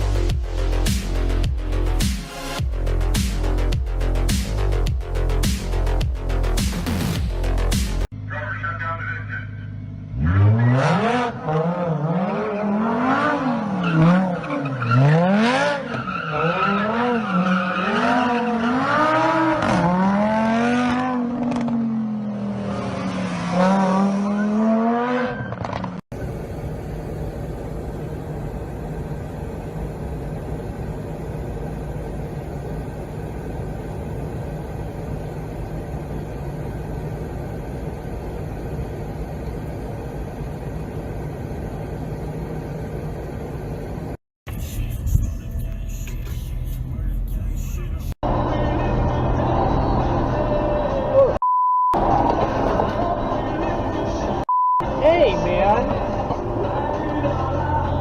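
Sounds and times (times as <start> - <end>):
steady vehicle engine drone: 0.0 - 51.4, 52.0 - 58.0
car engine revving: 9.8 - 51.4, 52.0 - 58.0.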